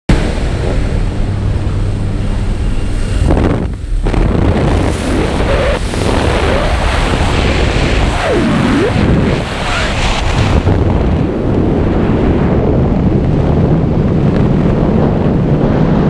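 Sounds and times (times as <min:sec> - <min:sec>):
plane engine and propeller droning: 0:00.1 - 0:16.0
wind buffeting microphone: 0:00.1 - 0:16.0.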